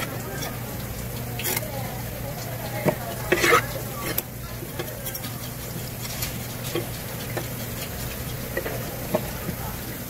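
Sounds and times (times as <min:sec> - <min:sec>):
knife tapping and scraping fish: 0:00.0 - 0:01.7, 0:02.5 - 0:09.8.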